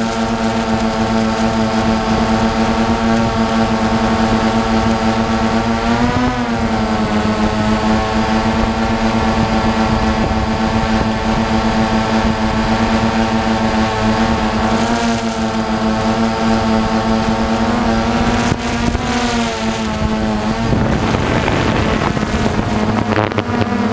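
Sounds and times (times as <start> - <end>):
drone propellers buzzing hum: 0.0 - 23.9.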